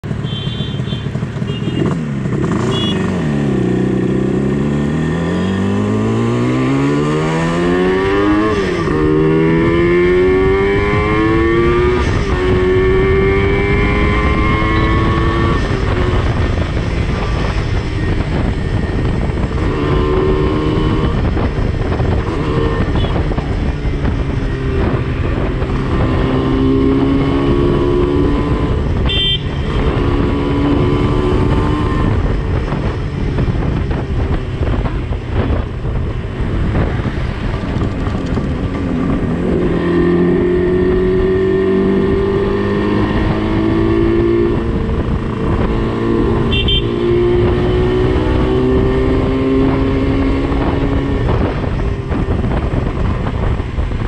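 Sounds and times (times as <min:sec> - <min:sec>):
motorcycle engine accelerating: 0:00.0 - 0:54.0
wind on microphone: 0:03.2 - 0:54.0.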